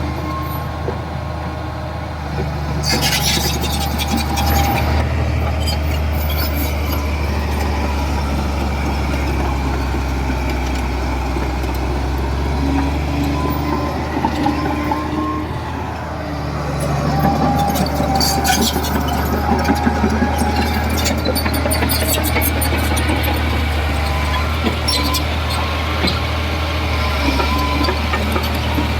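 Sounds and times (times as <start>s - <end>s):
diesel engine humming: 0.0s - 28.9s
metallic clanks and squeaks: 2.4s - 9.8s, 10.4s - 15.8s, 16.7s - 28.9s.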